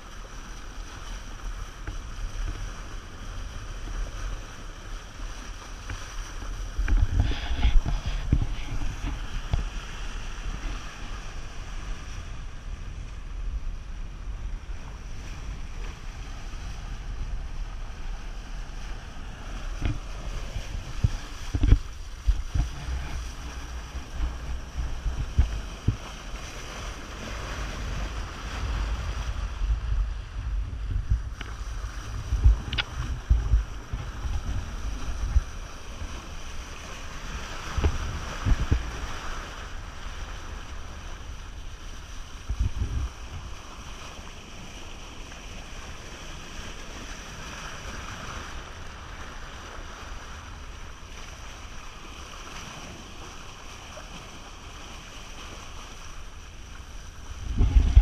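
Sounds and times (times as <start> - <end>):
water rushing along a hull: 0.0 - 58.0
wind buffeting microphone: 1.0 - 58.0.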